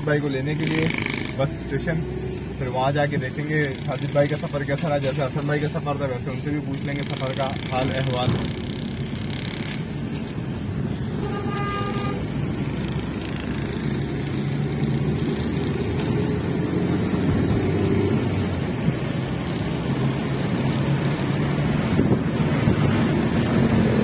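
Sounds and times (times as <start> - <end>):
car interior engine hum: 0.0 - 24.0.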